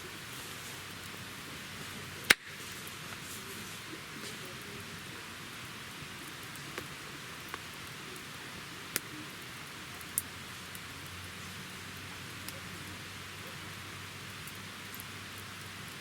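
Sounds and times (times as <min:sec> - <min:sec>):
campfire hissing: 0:00.0 - 0:16.0
fire crackling and popping: 0:00.0 - 0:16.0.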